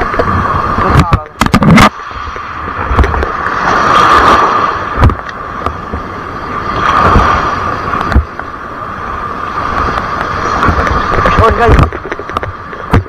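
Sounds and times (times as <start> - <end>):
surf washing on shore: 0.0 - 13.0
wind buffeting microphone: 0.0 - 13.0.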